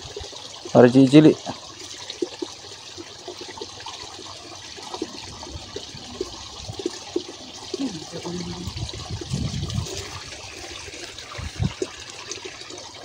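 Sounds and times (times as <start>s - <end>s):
water trickling and gurgling: 0.0s - 13.0s.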